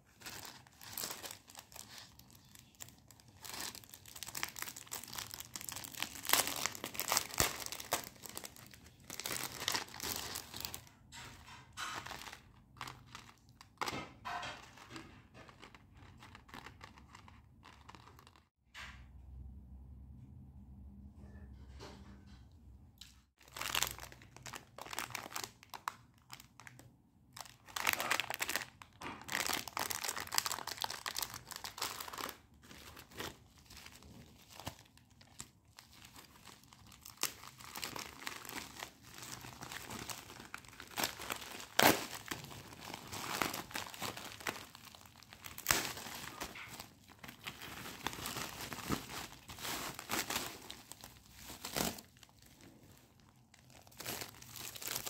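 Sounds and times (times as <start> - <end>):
packaging crinkling and tearing: 0.0 - 14.0, 14.7 - 18.5, 23.4 - 55.0.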